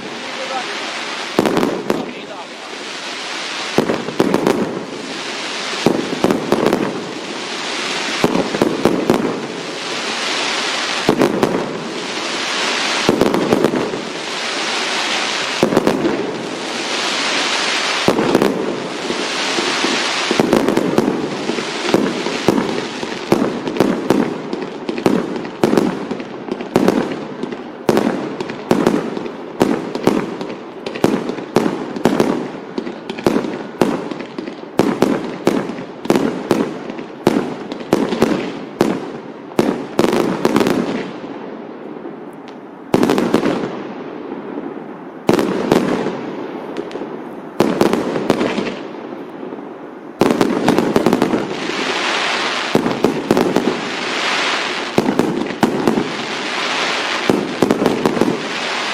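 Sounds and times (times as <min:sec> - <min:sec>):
fireworks banging: 0:00.0 - 0:41.3, 0:42.0 - 0:58.9
fireworks crackling: 0:00.0 - 0:58.9.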